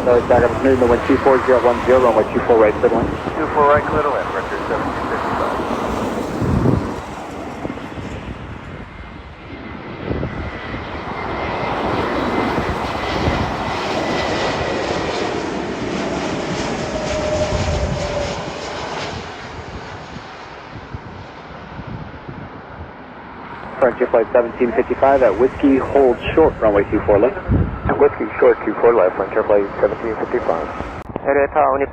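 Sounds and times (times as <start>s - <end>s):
thin steady engine whine: 0.0s - 31.7s
jet airliner landing: 0.0s - 31.9s.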